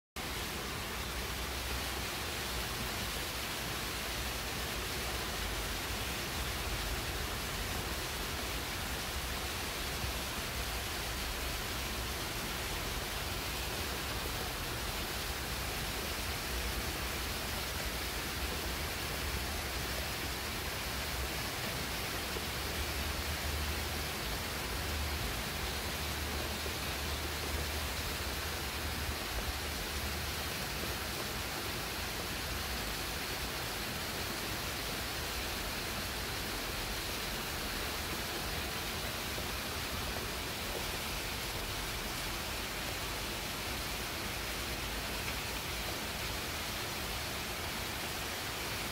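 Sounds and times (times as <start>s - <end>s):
rain falling on leaves: 0.2s - 48.9s.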